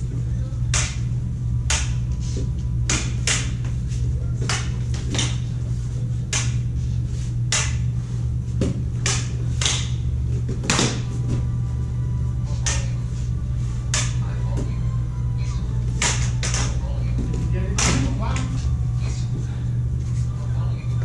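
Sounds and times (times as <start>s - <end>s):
lightsabers humming: 0.0s - 21.0s.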